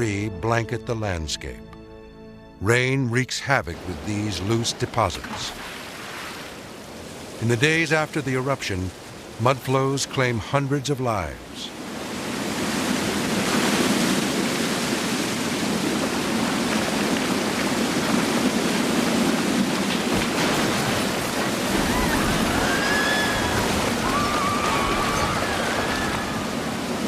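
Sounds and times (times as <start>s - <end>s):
mudflow rushing: 3.4s - 27.0s.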